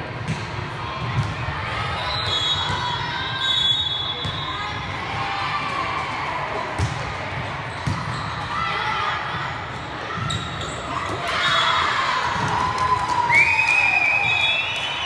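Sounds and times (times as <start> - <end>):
murmur of players' voices: 0.0 - 15.0.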